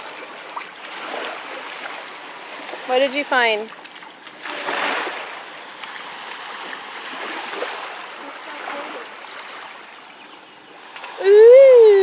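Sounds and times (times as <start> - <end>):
small waves washing over sand: 0.0 - 12.0.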